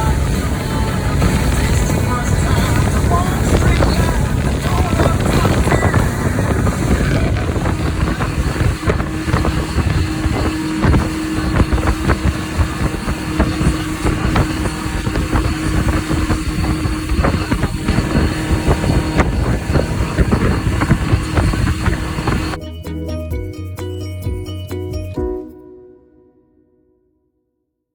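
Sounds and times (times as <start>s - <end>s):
jet ski engine droning: 0.0s - 22.6s
wind buffeting microphone: 0.0s - 22.6s.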